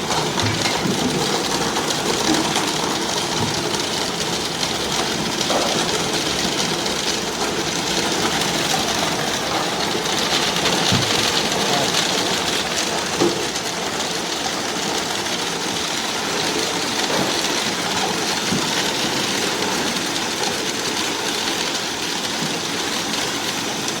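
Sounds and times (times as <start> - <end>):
ice machine running: 0.0 - 24.0.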